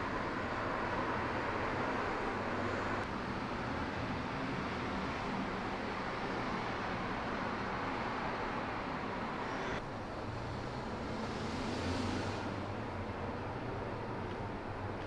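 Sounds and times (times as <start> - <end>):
steady rushing noise: 0.0 - 13.1.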